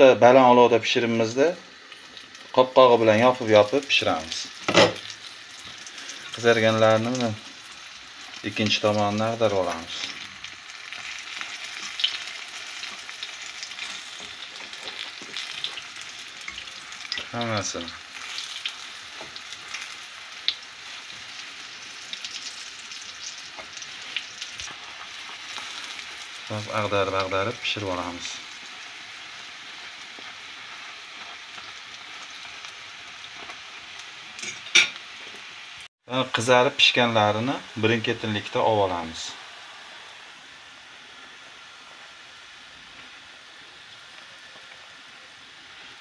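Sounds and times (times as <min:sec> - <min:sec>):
patties sizzling in hot oil: 0:00.0 - 0:46.0.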